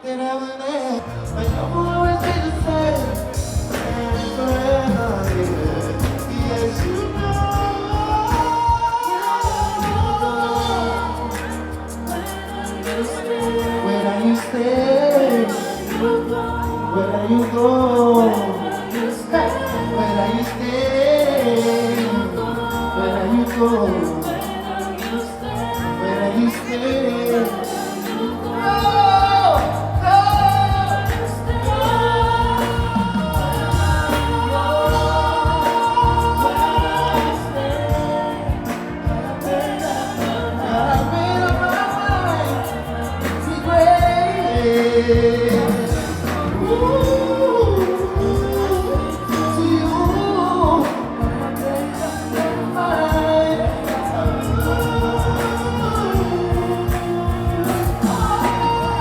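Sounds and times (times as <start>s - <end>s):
party song with bass beat: 1.1s - 59.0s.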